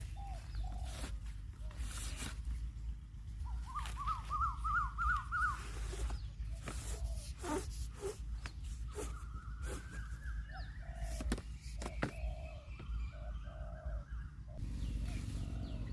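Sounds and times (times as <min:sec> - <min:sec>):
low steady rumble: 0:00.0 - 0:11.8, 0:12.4 - 0:15.9
bird chirping: 0:00.0 - 0:15.9.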